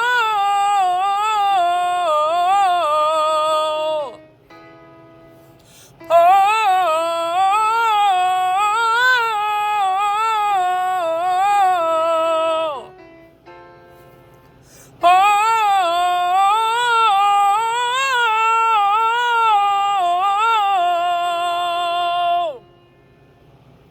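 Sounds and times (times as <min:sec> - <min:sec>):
person singing vocal exercise: 0:00.0 - 0:04.3, 0:05.6 - 0:13.0, 0:14.7 - 0:22.6.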